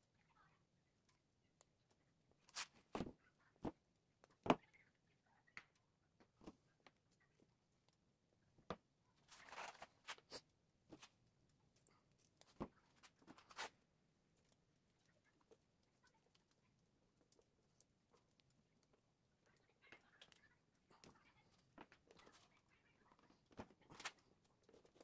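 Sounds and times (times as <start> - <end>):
wires rustling: 1.8 - 4.8, 6.2 - 25.0.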